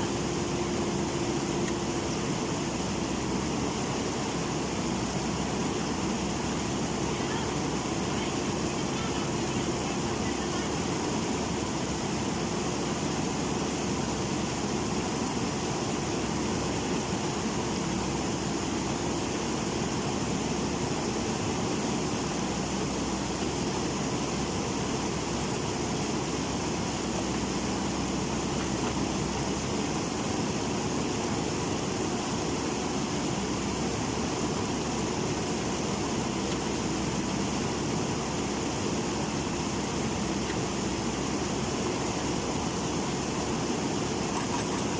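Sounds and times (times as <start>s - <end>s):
engine running: 0.0s - 44.9s
river rushing: 0.0s - 44.9s.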